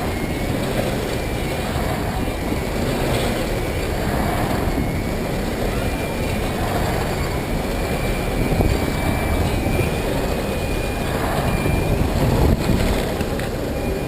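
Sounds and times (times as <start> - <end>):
faint high whine: 0.0 - 14.0
skateboard wheels rumbling: 0.0 - 14.0.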